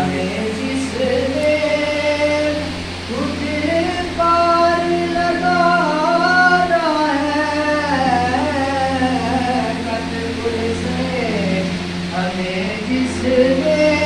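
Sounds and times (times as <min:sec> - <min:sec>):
person singing long held notes: 0:00.0 - 0:14.0
steady low hum: 0:00.0 - 0:14.0.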